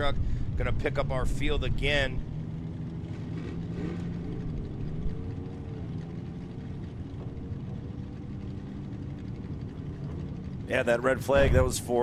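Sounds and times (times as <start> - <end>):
off-road vehicle engines idling: 0.0 - 12.0.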